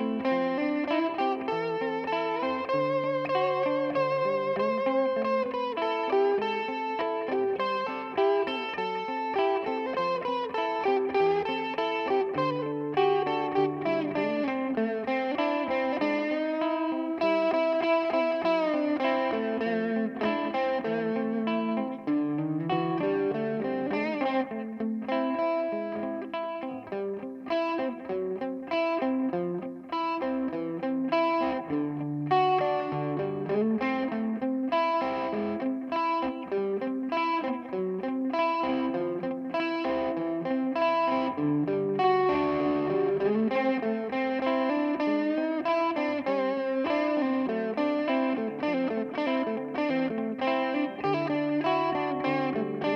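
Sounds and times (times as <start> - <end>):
electric guitar melody with delay: 0.0 - 52.9.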